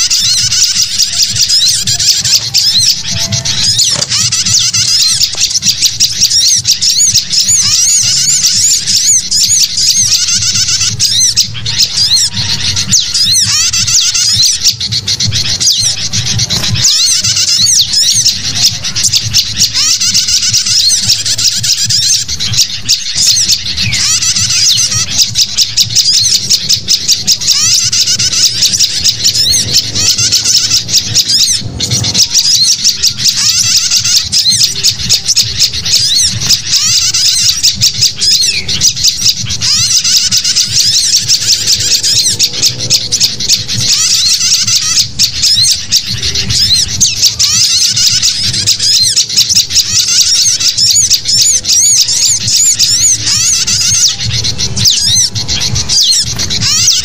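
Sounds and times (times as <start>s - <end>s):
birds chattering: 0.0s - 57.0s.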